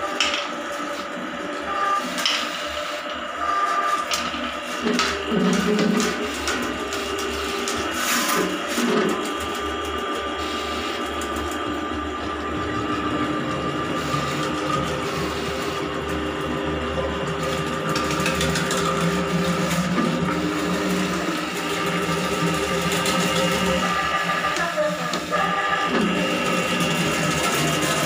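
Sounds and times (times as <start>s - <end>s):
drain-cleaning machine motor running: 0.0s - 28.0s.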